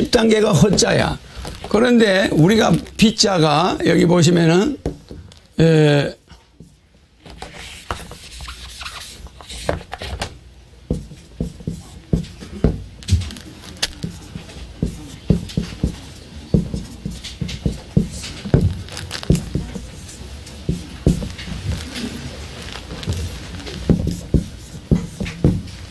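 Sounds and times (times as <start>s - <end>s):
marker pen on whiteboard: 0.0s - 5.4s, 6.5s - 25.9s.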